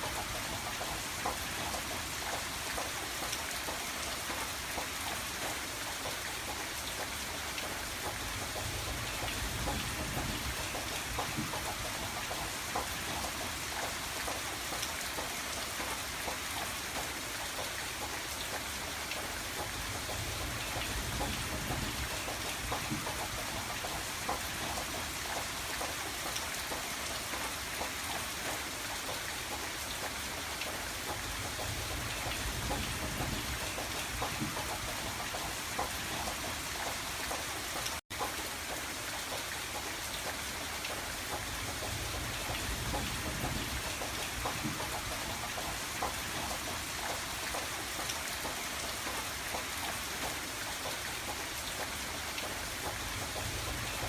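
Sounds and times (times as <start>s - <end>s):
rain on a window pane: 0.0s - 54.0s.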